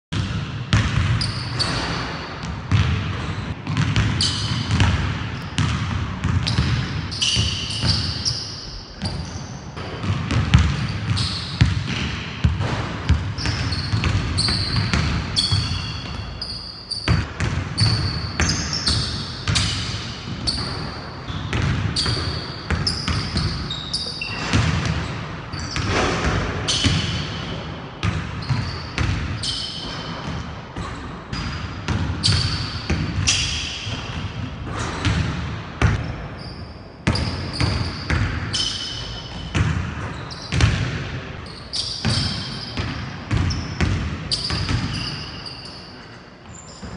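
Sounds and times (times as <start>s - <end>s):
basketball bouncing on wooden floor: 0.2s - 8.3s, 9.0s - 16.4s, 17.0s - 23.8s, 24.4s - 27.4s, 28.0s - 36.2s, 37.0s - 41.2s, 42.0s - 45.1s
sneaker squeaks: 0.8s - 46.9s.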